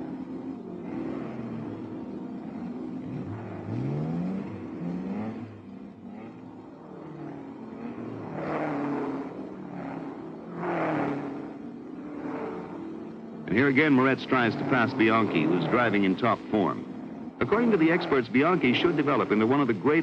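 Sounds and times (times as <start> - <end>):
cars passing at speed: 0.0 - 20.0
racing car engines accelerating: 0.0 - 20.0.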